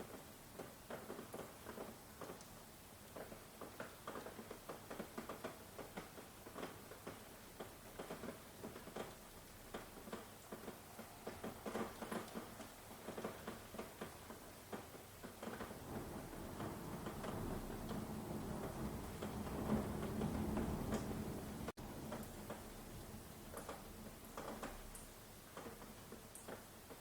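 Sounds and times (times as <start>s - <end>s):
raindrops tapping on a surface: 0.0s - 27.0s.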